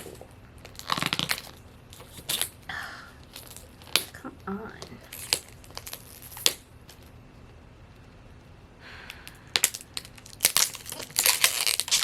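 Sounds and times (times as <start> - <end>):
plastic wrap crinkling and clicking: 0.0 - 4.2, 4.8 - 8.5, 9.2 - 12.0.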